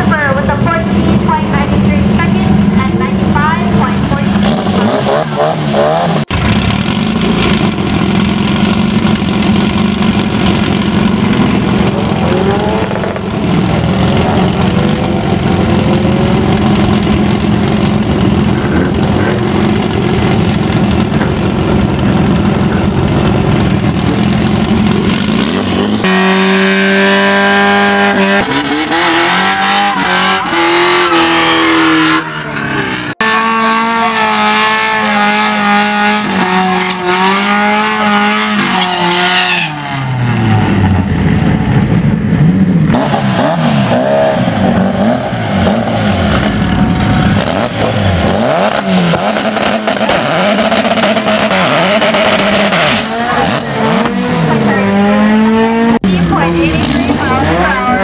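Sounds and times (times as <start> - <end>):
car engine revving loud and rough: 0.0 - 58.0.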